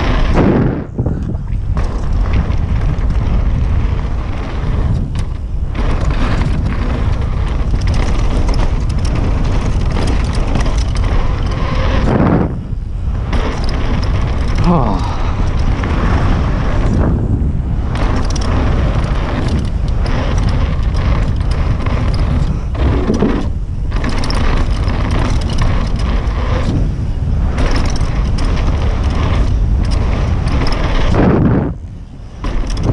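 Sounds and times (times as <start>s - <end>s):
bike tyres rumbling on dirt: 0.0s - 32.9s
wind on microphone: 0.0s - 32.9s.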